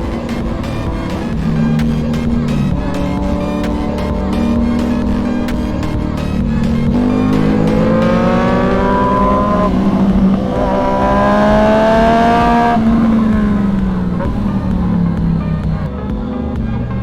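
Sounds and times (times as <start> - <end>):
motorcycle engine accelerating: 0.0 - 16.2.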